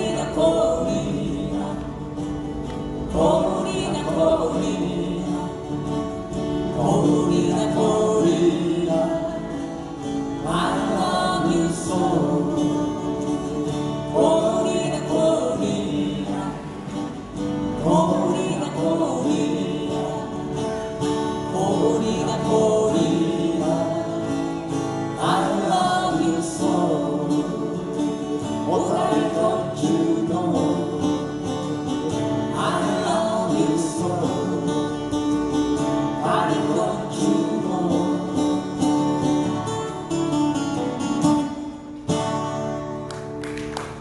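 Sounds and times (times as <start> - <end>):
strummed acoustic guitar chords: 0.0 - 44.0.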